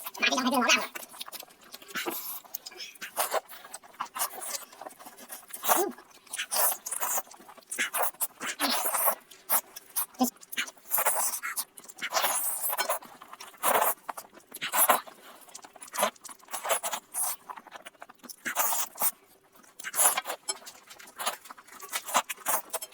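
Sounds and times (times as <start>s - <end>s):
person chewing and smacking: 0.0s - 22.9s.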